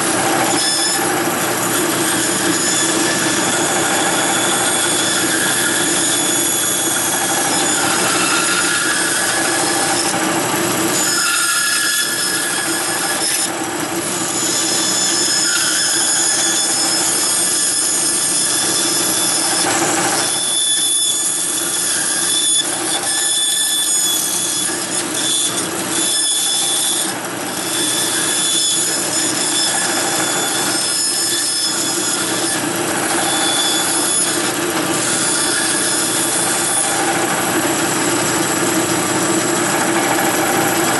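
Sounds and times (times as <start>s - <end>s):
bandsaw cutting wood: 0.0s - 40.9s.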